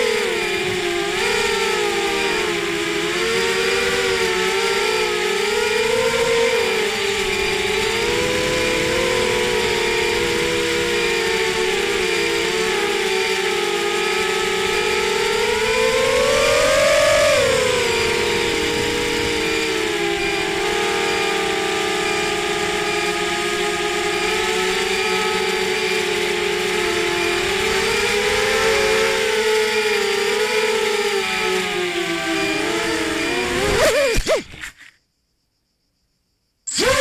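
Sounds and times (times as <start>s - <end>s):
drone motors high whine: 0.0s - 34.9s, 36.7s - 37.0s.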